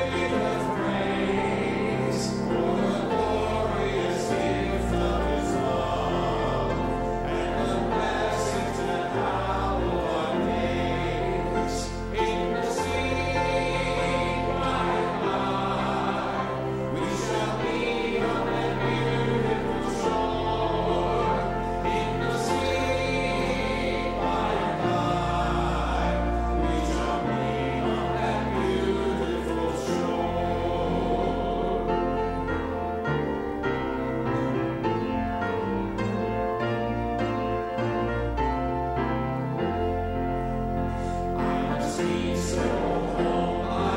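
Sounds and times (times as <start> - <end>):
instrumental accompaniment with bass: 0.0 - 43.9
voices singing: 0.0 - 43.9.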